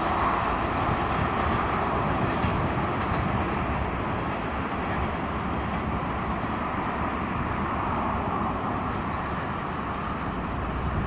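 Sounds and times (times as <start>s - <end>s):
distant train rumble: 0.0s - 11.0s.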